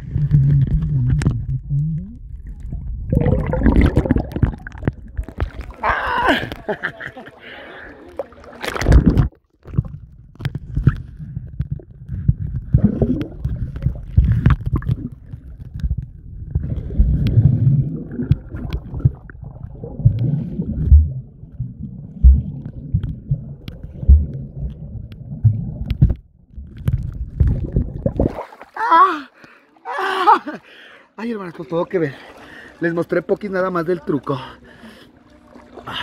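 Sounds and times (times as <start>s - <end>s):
water sloshing against microphone: 0.0s - 29.8s, 31.5s - 36.0s.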